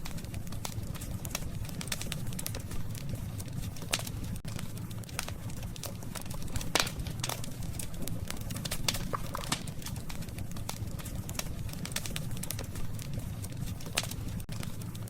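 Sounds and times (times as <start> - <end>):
campfire crackling and popping: 0.0 - 15.0
rumble of flames: 0.0 - 15.0.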